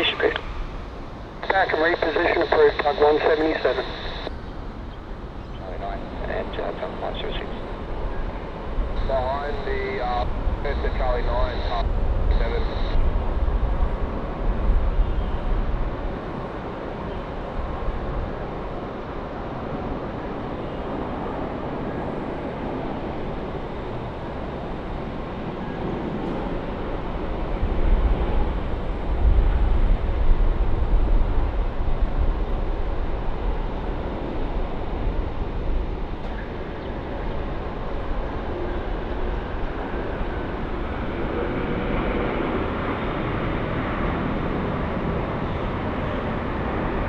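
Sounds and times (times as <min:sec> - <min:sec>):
jet engine rushing and rumbling: 0:00.0 - 0:47.0.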